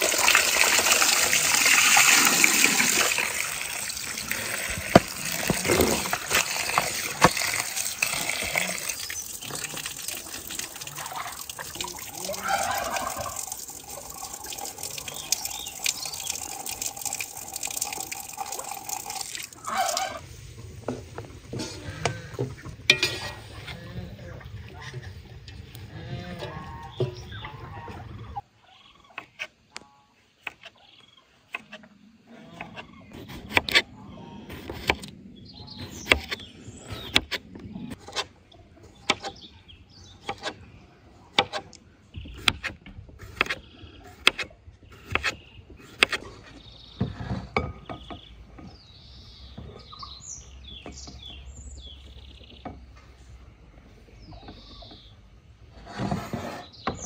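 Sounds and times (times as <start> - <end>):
birds chirping: 0.7 - 57.0.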